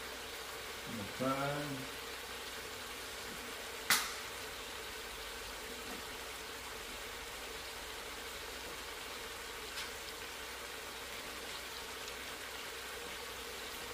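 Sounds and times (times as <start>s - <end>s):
pot bubbling and hissing: 0.0s - 13.9s.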